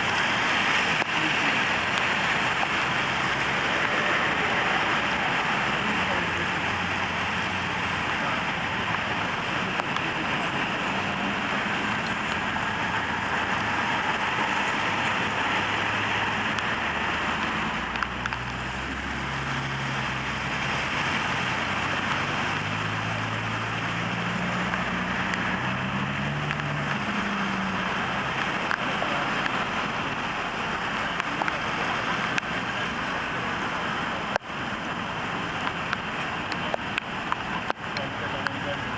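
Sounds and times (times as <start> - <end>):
road traffic noise: 0.0 - 38.9
vehicle engine hum: 0.0 - 38.9.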